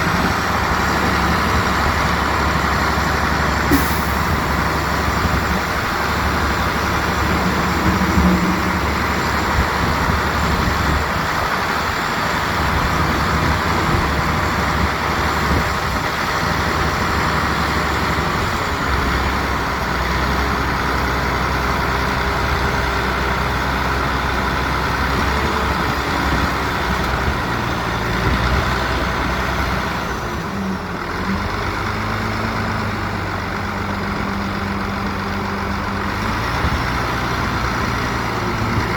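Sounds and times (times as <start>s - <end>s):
diesel construction machinery running: 0.0s - 38.9s.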